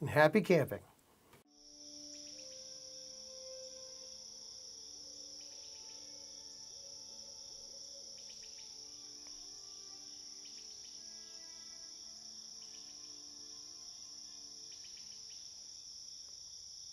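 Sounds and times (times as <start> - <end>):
crickets chirring: 1.5 - 16.9.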